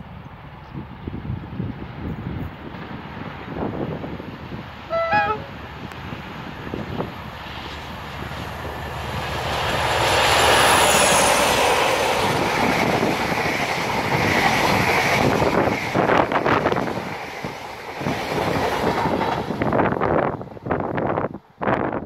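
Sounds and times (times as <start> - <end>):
diesel locomotive passing: 0.0 - 22.0.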